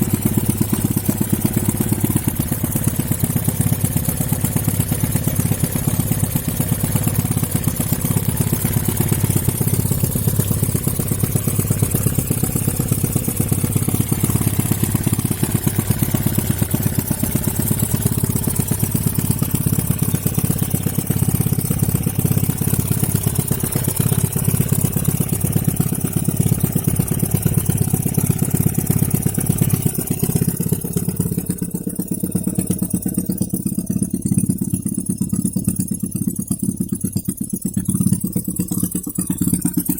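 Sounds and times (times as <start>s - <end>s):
small engine running: 0.0s - 33.4s.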